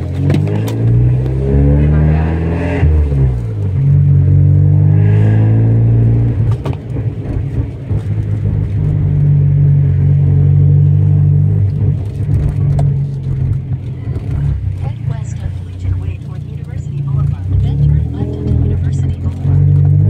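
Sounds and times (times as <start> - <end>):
car engine low drone: 0.0 - 20.0.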